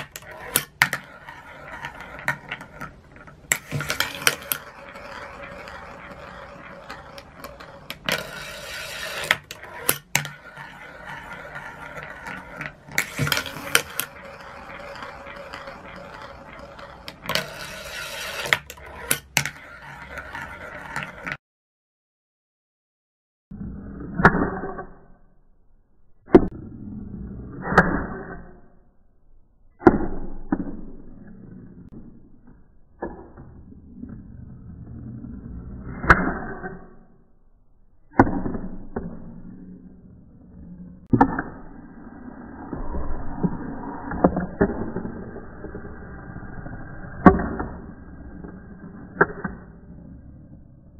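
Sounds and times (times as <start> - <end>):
ball rolling along metal rails: 0.0 - 21.4, 23.6 - 50.9.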